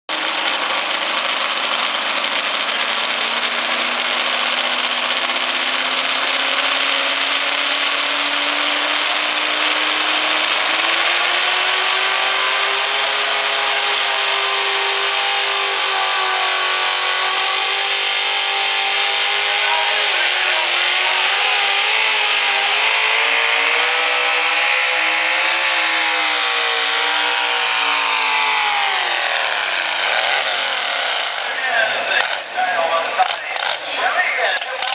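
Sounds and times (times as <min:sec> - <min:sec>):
truck engine at full throttle: 0:00.0 - 0:34.9.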